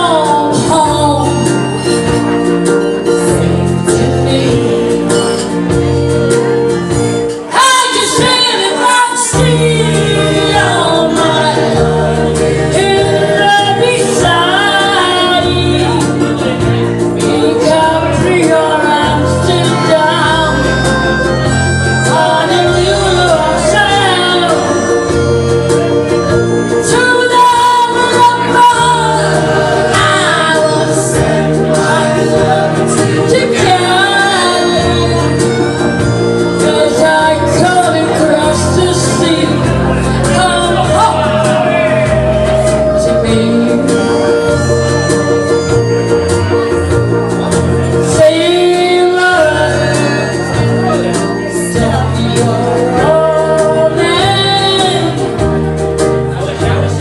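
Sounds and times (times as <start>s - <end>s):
backing music with bass line: 0.0s - 57.0s
person singing through microphone: 0.0s - 57.0s.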